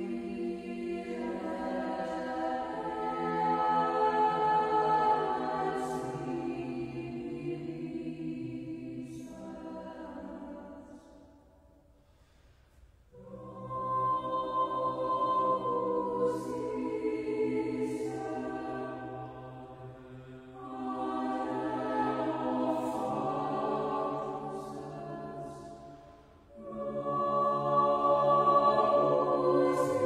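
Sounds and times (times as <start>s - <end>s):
choir chanting: 0.0s - 11.3s, 13.1s - 30.0s.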